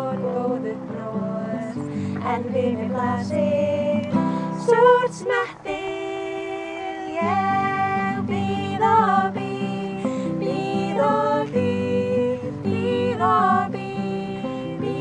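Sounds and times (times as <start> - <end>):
strummed acoustic guitar: 0.0 - 15.0
women singing together: 0.0 - 15.0.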